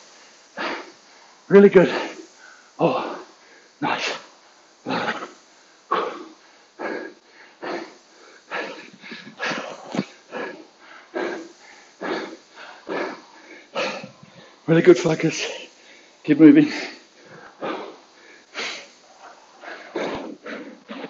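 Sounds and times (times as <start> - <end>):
man panting and gasping: 0.4 - 21.0.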